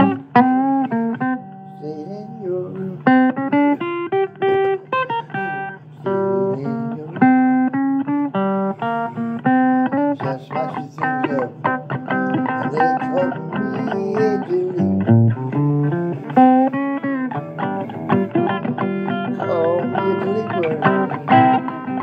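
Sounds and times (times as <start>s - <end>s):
blues guitar: 0.0s - 22.0s.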